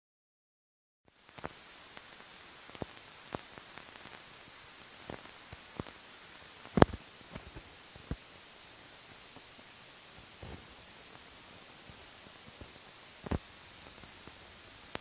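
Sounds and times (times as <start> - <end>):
film soundtrack hiss: 1.1 - 15.0.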